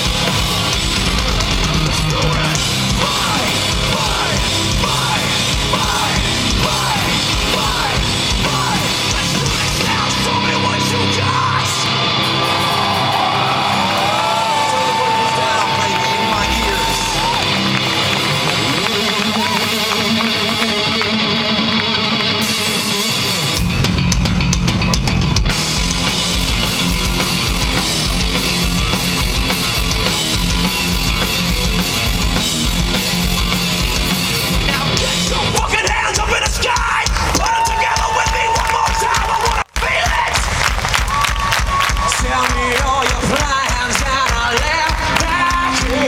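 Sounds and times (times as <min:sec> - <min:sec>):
bass guitar: 0:00.0 - 0:46.0
distorted electric guitars: 0:00.0 - 0:46.0
drum kit: 0:00.0 - 0:46.0.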